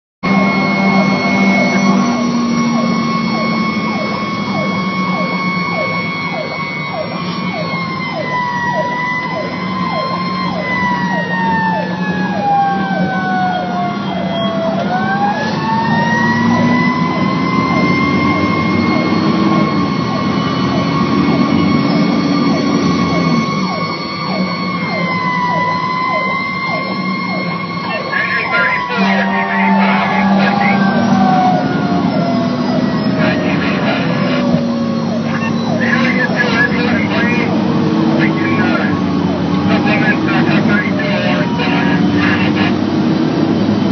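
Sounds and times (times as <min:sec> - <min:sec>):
emergency vehicle siren: 0:00.2 - 0:43.9.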